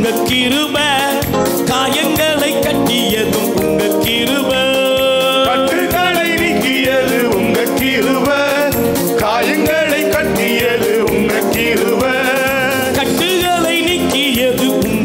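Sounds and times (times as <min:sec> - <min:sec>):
band playing: 0:00.0 - 0:15.0
man singing into a microphone: 0:00.0 - 0:15.0
steady drum beat: 0:00.0 - 0:15.0.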